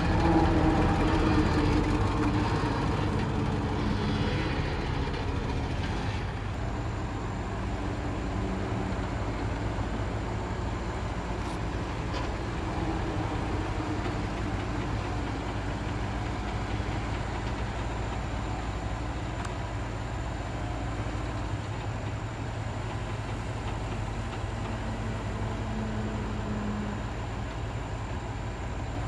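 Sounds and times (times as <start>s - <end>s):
diesel engine of heavy machinery: 0.0s - 29.0s.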